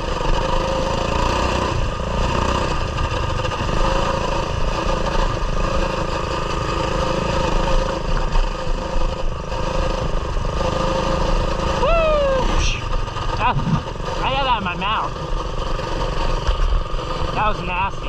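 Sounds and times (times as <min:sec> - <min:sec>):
mini bike engine running: 0:00.0 - 0:18.0.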